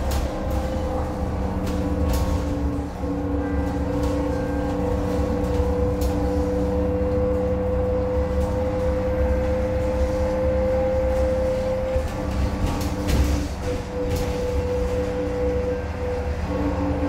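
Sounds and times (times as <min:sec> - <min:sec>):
bus motor hum: 0:00.0 - 0:17.0
bus road rumble: 0:00.0 - 0:17.0.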